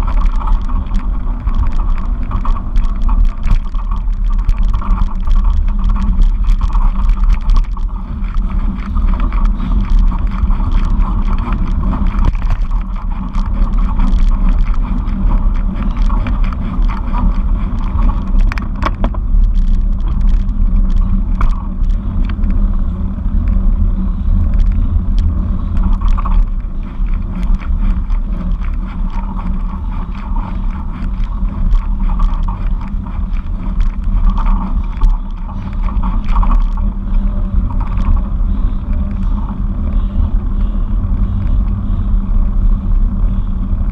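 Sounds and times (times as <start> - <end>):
small clicks and rattles: 0.0 - 43.9
wind and road noise: 0.0 - 43.9.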